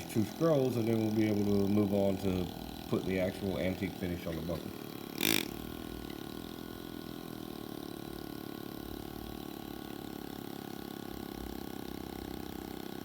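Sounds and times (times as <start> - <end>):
pneumatic graver buzzing on metal: 0.0 - 13.0.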